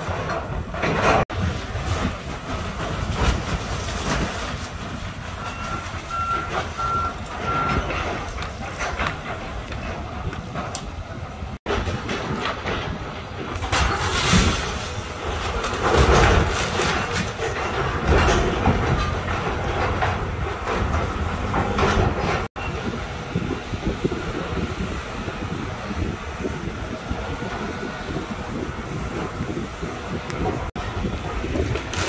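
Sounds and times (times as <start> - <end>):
debris crashing: 0.0 - 22.5, 28.2 - 32.0
excavator engine rumble: 0.0 - 32.0.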